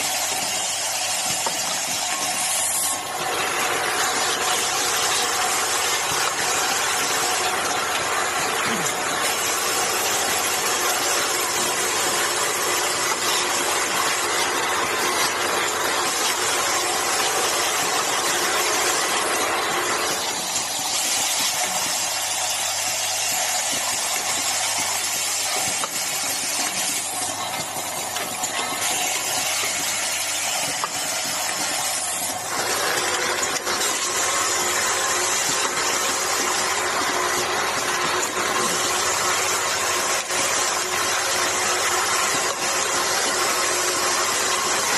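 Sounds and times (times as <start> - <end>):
assembly machine running: 0.0 - 44.9.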